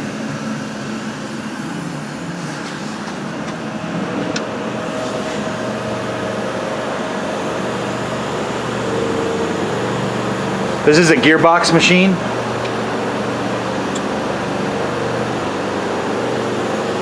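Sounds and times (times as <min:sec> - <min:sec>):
faint steady whine: 0:00.0 - 0:17.0
machine mechanical hum: 0:00.0 - 0:17.0.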